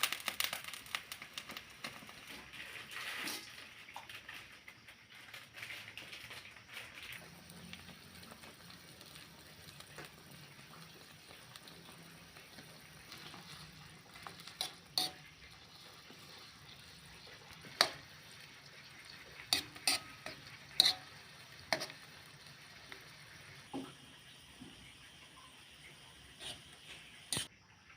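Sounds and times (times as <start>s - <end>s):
food sizzling in a pan: 0.0s - 27.7s.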